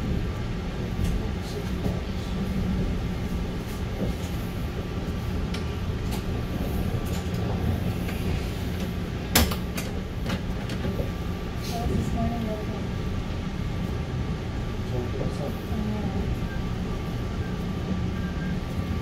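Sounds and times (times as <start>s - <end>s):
train rumbling slowly: 0.0s - 19.0s.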